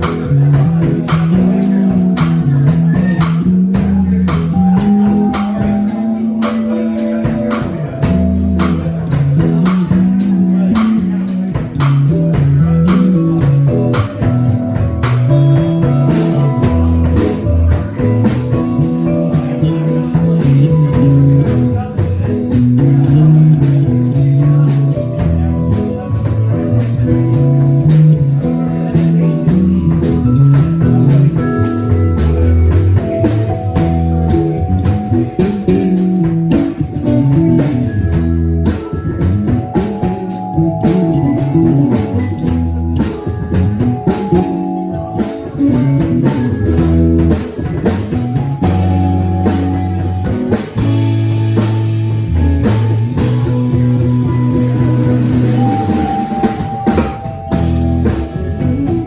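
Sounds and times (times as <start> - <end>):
bass line: 0.0 - 59.0
drum kit beat: 0.0 - 59.0
guitar: 0.0 - 59.0.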